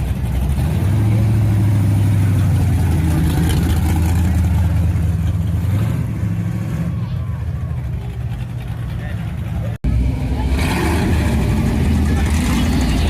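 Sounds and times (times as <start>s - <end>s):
car engine and exhaust: 0.0s - 13.0s.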